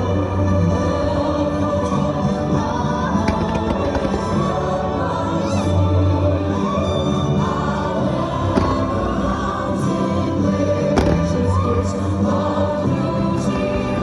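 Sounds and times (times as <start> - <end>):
choir singing over music: 0.0 - 14.0.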